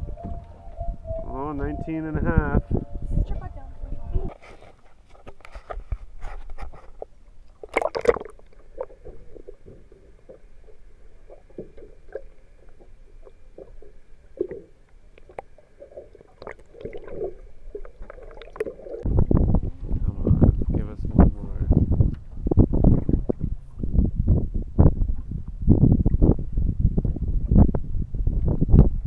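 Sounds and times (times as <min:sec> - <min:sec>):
water sloshing against hull: 0:00.0 - 0:29.0.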